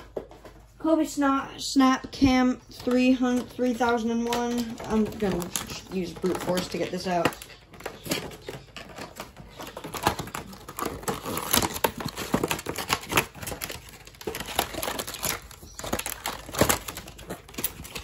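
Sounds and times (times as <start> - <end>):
plastic packaging crackling: 2.7 - 18.0.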